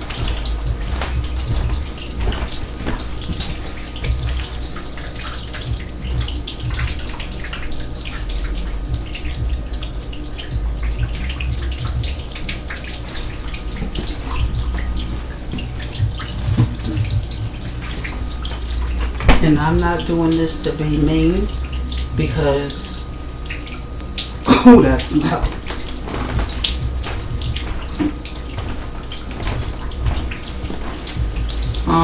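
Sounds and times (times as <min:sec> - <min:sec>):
water drips and spatters: 0:00.0 - 0:32.0
water running and splashing in sink: 0:00.0 - 0:32.0.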